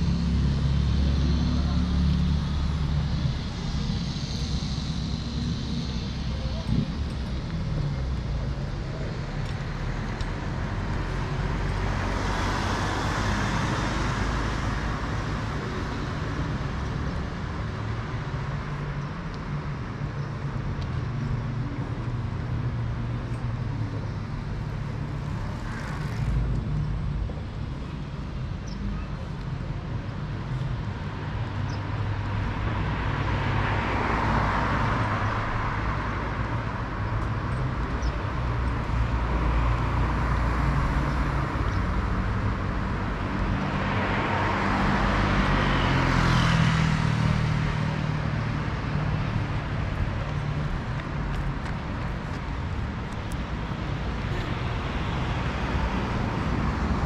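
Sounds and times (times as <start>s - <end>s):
road traffic passing: 0.0s - 57.0s
tyre and road noise: 0.0s - 57.0s.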